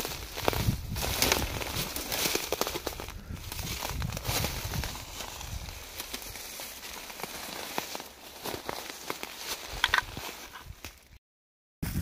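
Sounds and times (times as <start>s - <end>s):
footsteps through undergrowth: 0.0s - 11.2s
twigs crackling: 0.0s - 11.2s.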